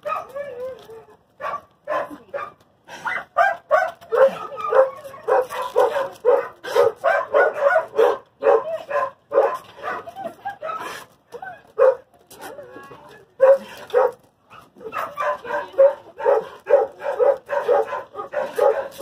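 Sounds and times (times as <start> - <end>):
dog barking: 0.0 - 0.6, 1.4 - 11.0, 11.8 - 12.1, 13.4 - 19.0.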